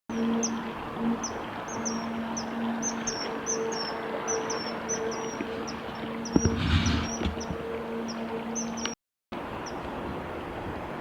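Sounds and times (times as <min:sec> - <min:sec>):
stream flowing: 0:00.1 - 0:11.0.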